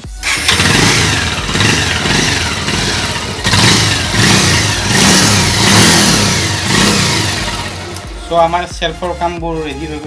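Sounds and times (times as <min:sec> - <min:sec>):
motorcycle engine revving: 0:00.0 - 0:08.5.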